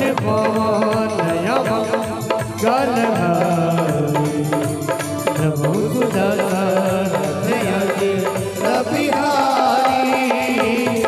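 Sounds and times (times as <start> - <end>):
hand drums: 0.0 - 11.0.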